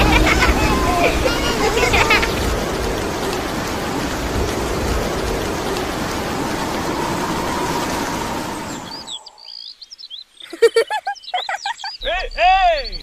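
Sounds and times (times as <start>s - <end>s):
birds chirping: 0.0s - 13.0s
steady rain hiss: 0.0s - 13.0s.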